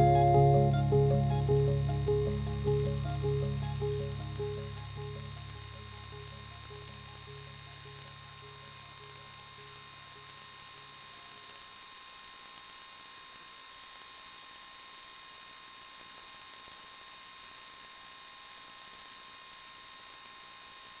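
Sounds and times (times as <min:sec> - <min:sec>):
electronic static hiss: 0:00.0 - 0:21.0
high-pitched whine: 0:00.0 - 0:21.0.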